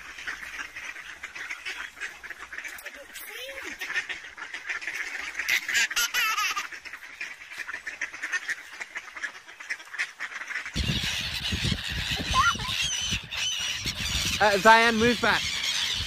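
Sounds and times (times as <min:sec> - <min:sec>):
ducks quacking: 0:00.0 - 0:16.0
geese honking: 0:00.0 - 0:16.0.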